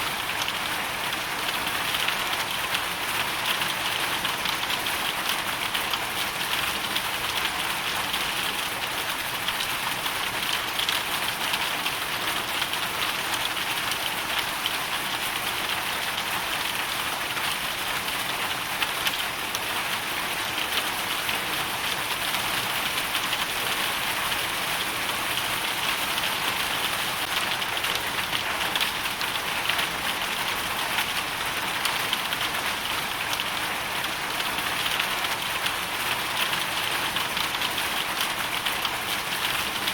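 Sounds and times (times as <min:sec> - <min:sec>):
hail and rain falling: 0:00.1 - 0:39.9.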